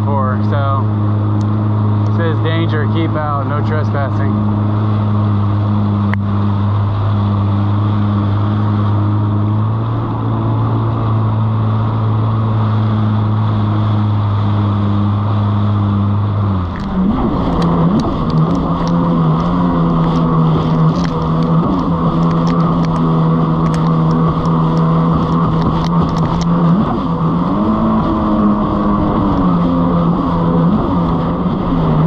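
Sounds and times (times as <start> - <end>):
jet ski engine: 0.0 - 32.0
rushing water: 0.0 - 32.0.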